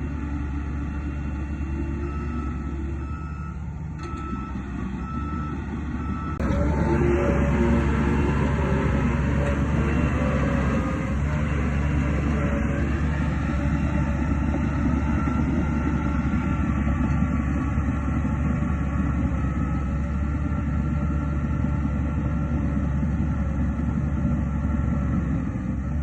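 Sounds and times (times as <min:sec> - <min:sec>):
dozer diesel engine droning: 0:00.0 - 0:26.0.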